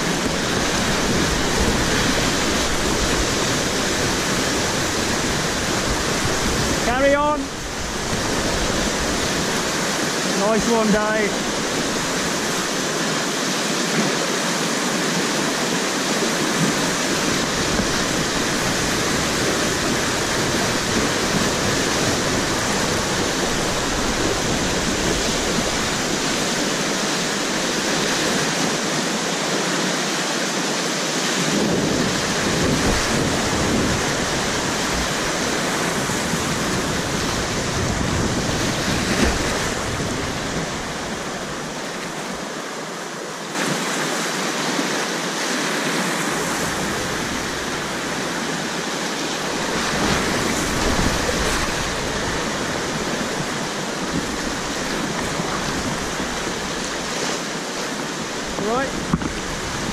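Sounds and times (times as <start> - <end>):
whitewater rapids rushing: 0.0 - 59.9.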